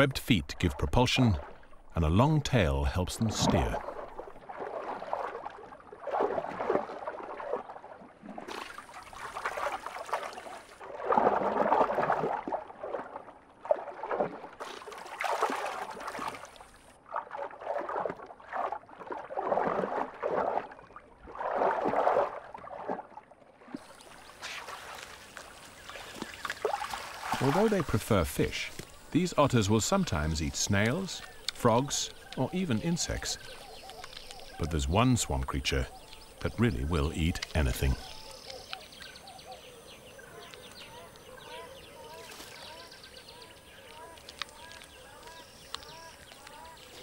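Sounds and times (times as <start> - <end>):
water splashing and gurgling: 0.0 - 47.0.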